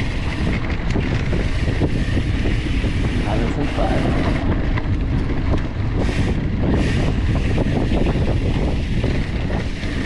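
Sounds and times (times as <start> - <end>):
mountain bike rattling on dirt trail: 0.0 - 10.0
wind buffeting microphone: 0.0 - 10.0.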